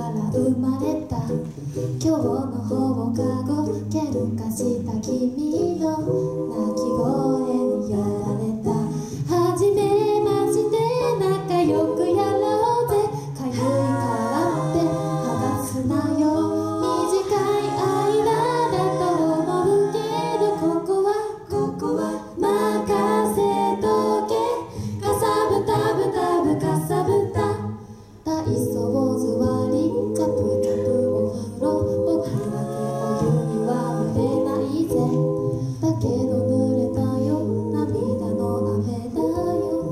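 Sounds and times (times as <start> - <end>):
a cappella group singing: 0.0 - 39.9.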